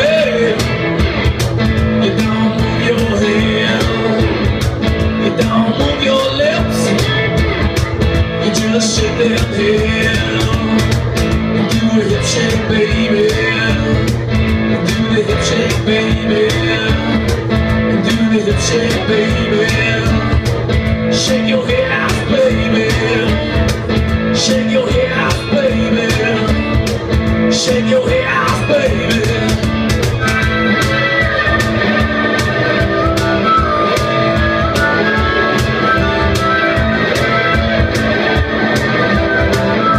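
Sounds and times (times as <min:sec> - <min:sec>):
electric guitar: 0:00.0 - 0:39.9
live blues-rock band: 0:00.0 - 0:39.9.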